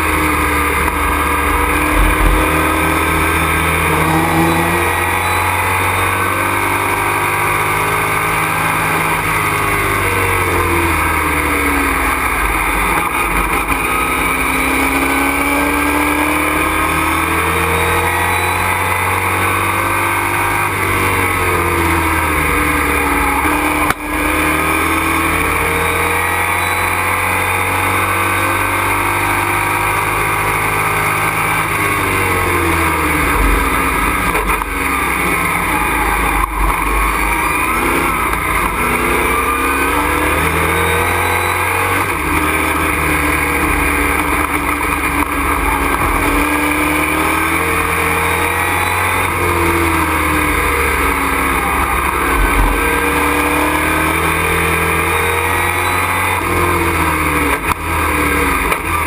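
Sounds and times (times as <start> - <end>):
race truck engine: 0.0 - 59.0.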